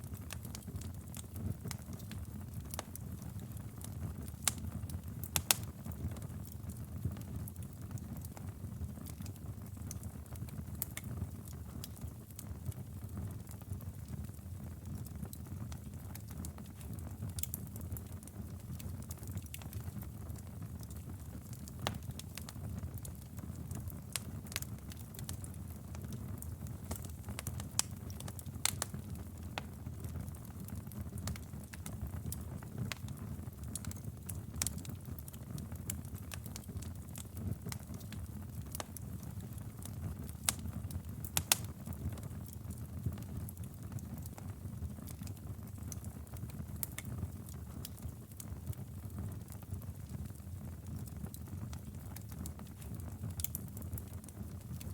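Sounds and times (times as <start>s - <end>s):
low fire rumble: 0.0s - 54.9s
wood fire crackling and popping: 0.0s - 54.9s.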